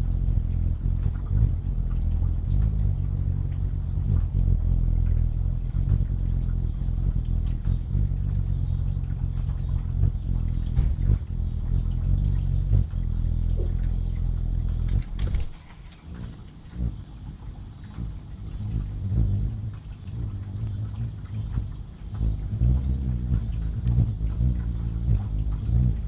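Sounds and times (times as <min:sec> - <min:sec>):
hummingbird wings humming: 0:00.0 - 0:26.0.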